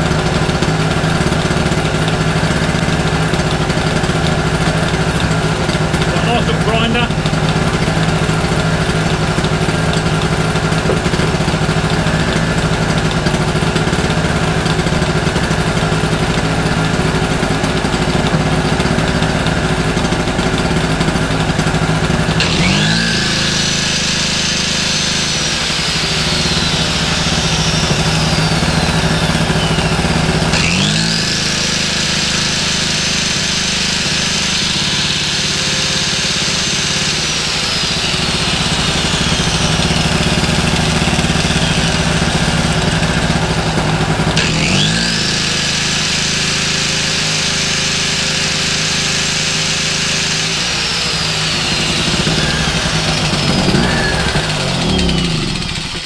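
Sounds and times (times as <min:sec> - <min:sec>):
angle grinder whining: 0:00.0 - 0:56.0
two-stroke generator running: 0:00.0 - 0:56.0.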